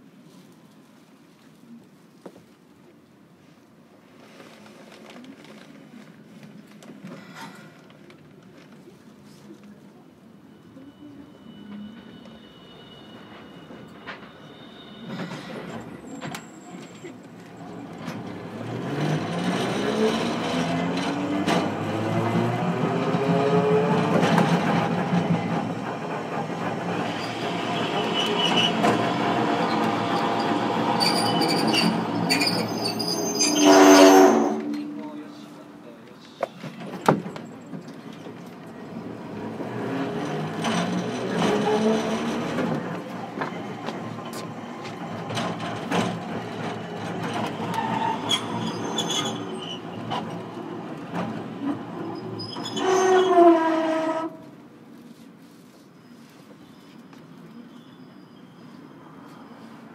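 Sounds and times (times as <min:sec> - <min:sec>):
tram motor and running noise: 0:03.9 - 0:55.8.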